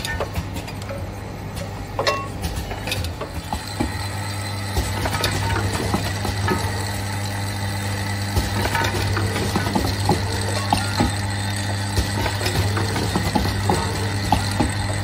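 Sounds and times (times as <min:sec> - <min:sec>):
machine motor hum: 0:00.0 - 0:15.0
mechanical clicks and clacks: 0:00.0 - 0:15.0.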